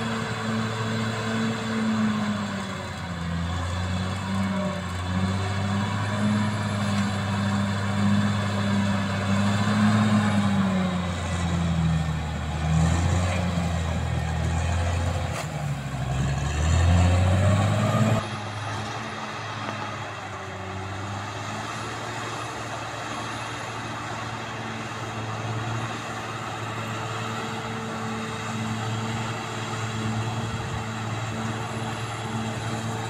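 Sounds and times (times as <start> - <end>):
bulldozer diesel engine under load: 0.0 - 33.0.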